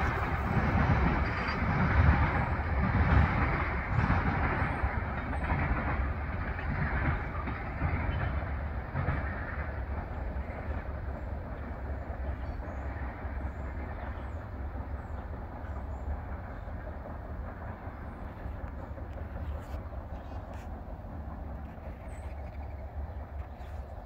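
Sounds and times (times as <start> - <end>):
freight train rumbling on rails: 0.0 - 24.0.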